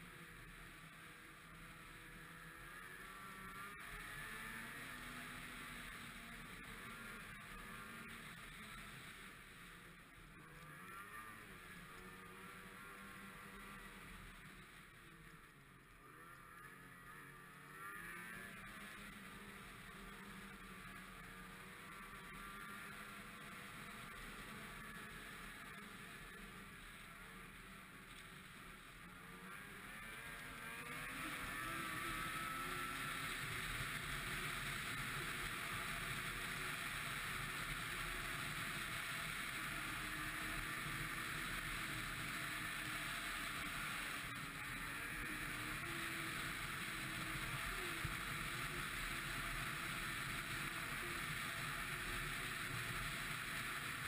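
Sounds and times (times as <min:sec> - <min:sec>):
constant rushing noise: 0:00.0 - 0:54.0
snowmobile engine revving: 0:01.0 - 0:09.3, 0:10.4 - 0:14.5, 0:16.2 - 0:28.4, 0:29.0 - 0:54.0.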